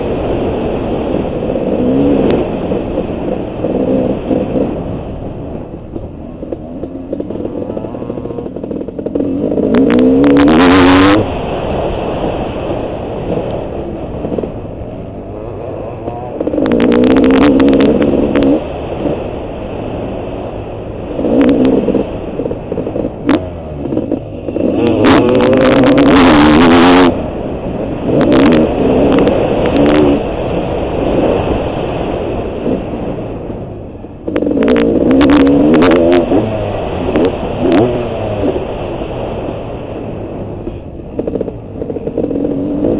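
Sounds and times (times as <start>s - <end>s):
motocross engine revving: 0.0s - 33.5s, 34.2s - 42.9s.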